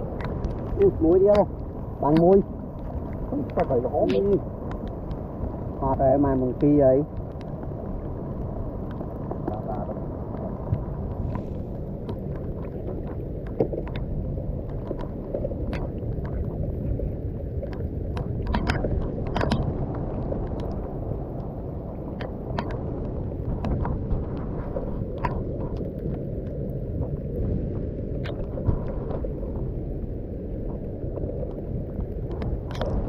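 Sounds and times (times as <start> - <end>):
rain and wind on microphone: 0.0 - 33.0.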